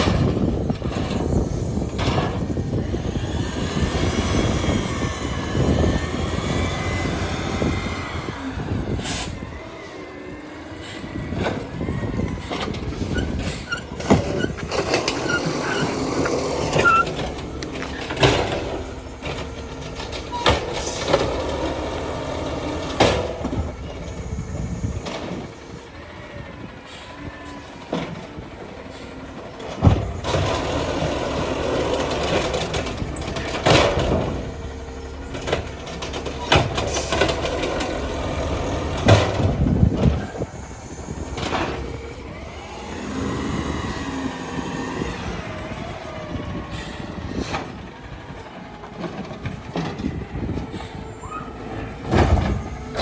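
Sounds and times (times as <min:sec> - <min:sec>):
garbage truck machinery whining: 0:00.0 - 0:53.0.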